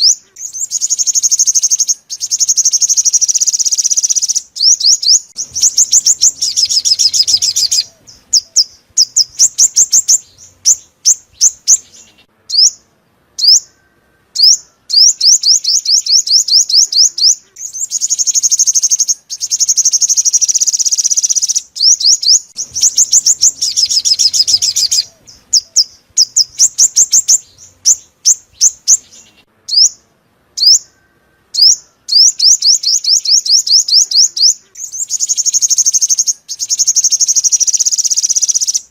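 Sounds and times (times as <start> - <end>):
bird song rapid high trills: 0.0 - 38.9.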